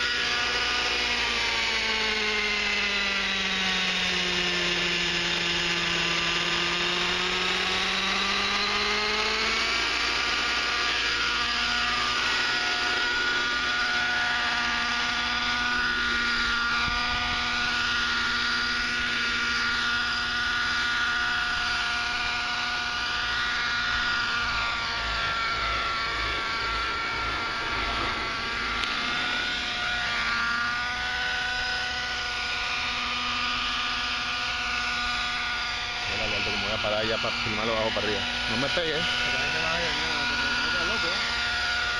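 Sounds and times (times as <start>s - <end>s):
model helicopter engine whine: 0.0s - 41.9s.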